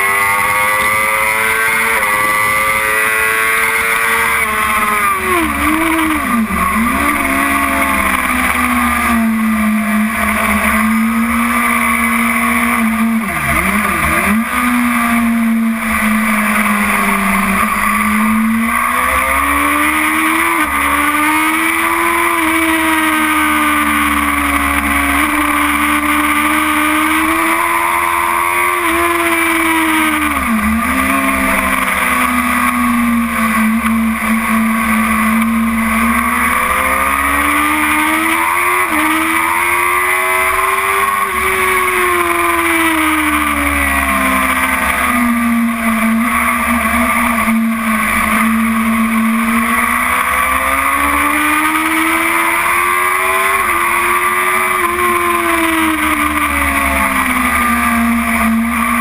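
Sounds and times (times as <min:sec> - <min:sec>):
motorcycle engine at racing speed: 0:00.0 - 0:59.0.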